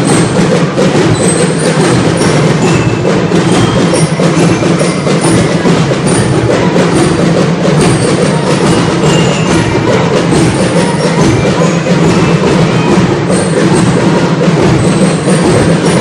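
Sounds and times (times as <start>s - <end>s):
snare and bass drums: 0.0s - 16.0s.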